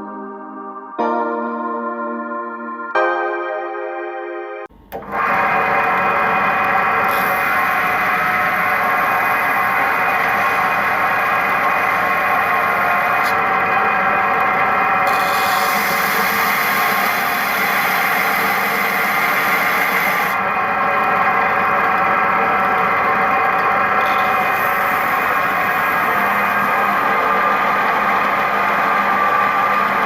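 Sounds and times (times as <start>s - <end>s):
belt sander whining: 4.7s - 30.0s.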